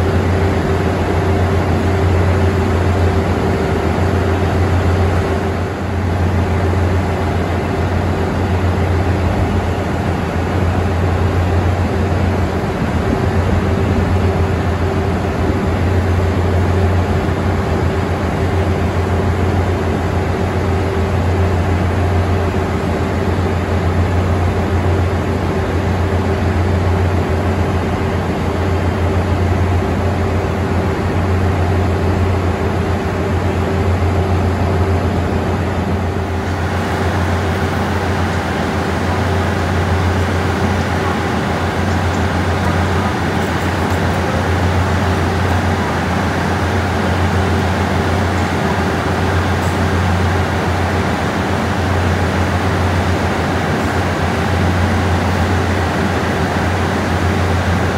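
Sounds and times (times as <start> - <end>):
constant higher hum: 0.0 - 57.9
low mechanical drone: 0.0 - 57.9.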